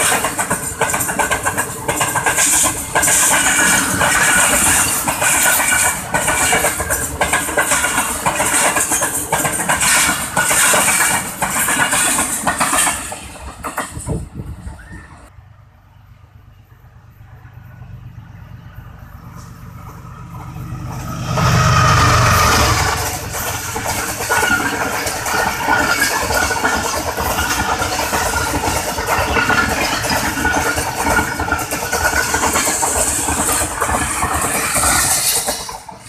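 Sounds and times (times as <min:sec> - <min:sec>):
train wheels clattering on rails: 0:00.0 - 0:15.3, 0:19.4 - 0:36.0
diesel locomotive rumble: 0:00.0 - 0:36.0.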